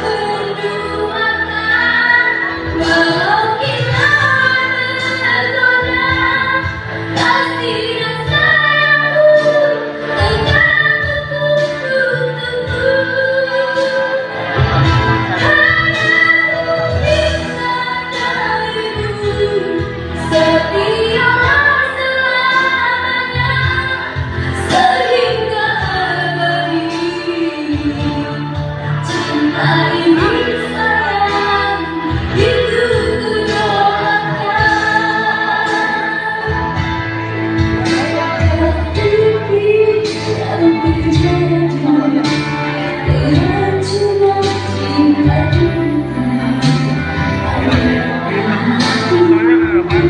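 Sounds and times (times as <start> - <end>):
instrumental accompaniment: 0.0 - 50.0
woman singing: 0.0 - 50.0.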